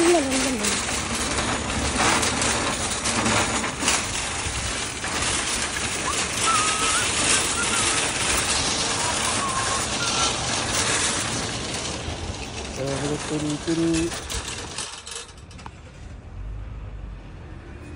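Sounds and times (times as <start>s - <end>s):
shopping carts rattling: 0.0s - 16.0s.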